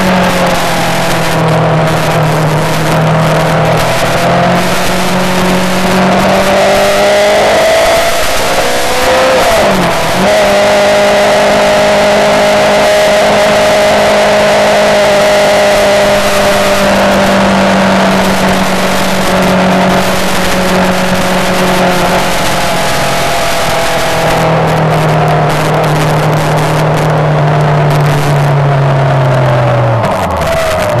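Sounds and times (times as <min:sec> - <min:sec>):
motorcycle engine at high revs: 0:00.0 - 0:31.0.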